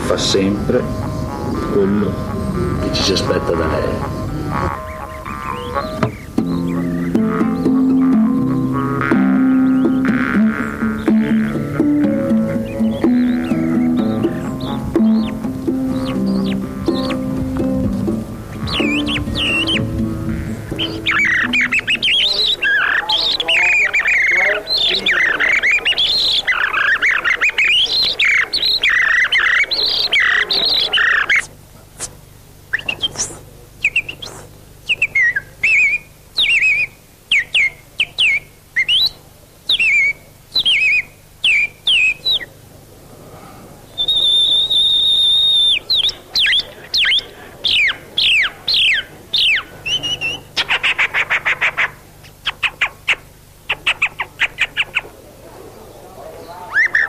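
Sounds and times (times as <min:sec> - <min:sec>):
men imitating bird calls: 0:00.0 - 0:57.0.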